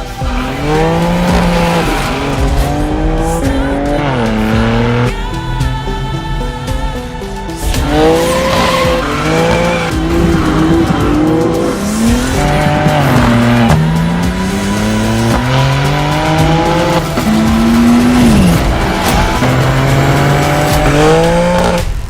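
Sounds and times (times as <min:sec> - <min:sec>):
car engine accelerating hard: 0:00.0 - 0:05.8, 0:06.6 - 0:22.0.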